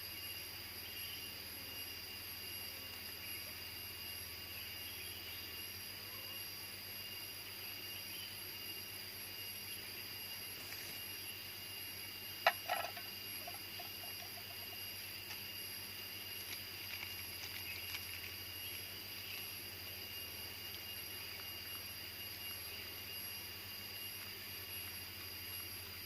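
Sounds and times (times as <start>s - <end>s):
jungle insects chorus: 0.0s - 26.0s.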